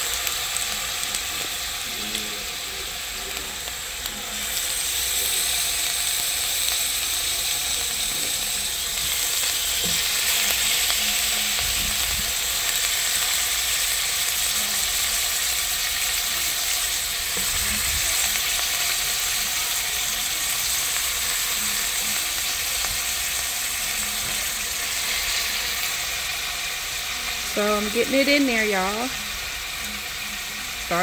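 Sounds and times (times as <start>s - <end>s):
chicken wings sizzling in oil: 0.0s - 31.0s.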